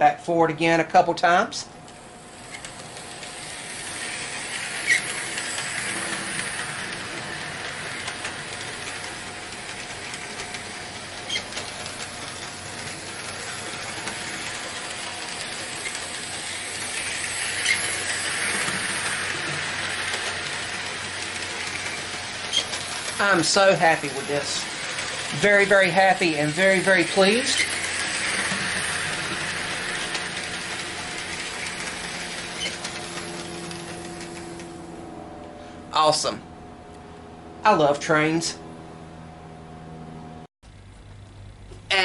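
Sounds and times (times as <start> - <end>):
model train whirring on track: 1.2 - 36.1.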